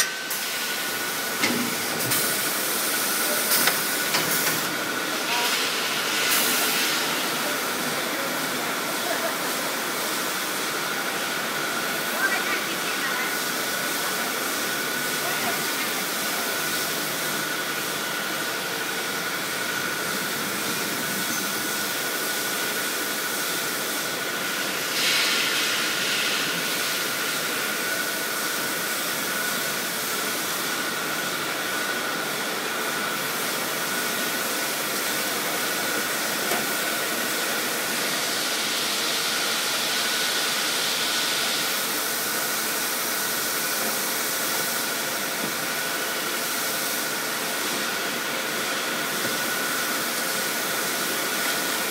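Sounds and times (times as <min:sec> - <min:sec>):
hot-air blowers rushing: 0:00.0 - 0:51.9.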